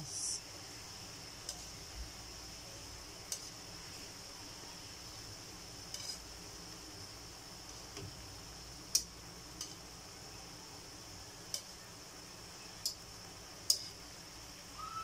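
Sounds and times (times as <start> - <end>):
meat and onions sizzling in a wok: 0.0 - 15.0.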